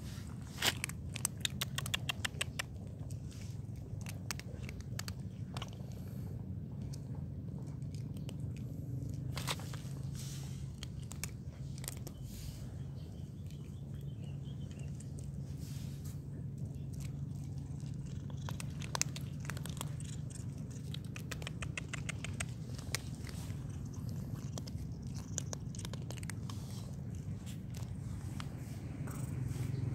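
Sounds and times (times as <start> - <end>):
cats crunching dry kibble: 0.0 - 29.9
low hum: 2.6 - 29.9.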